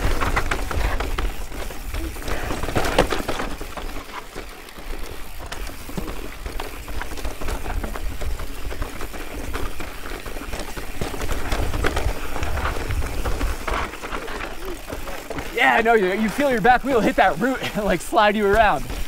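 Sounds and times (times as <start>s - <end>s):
bike frame rattling: 0.0s - 19.0s
bike tyres crunching over rock: 0.0s - 19.0s.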